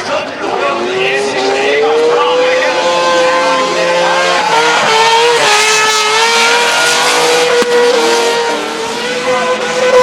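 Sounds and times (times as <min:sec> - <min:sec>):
rotary engine at high revs: 0:00.4 - 0:10.0.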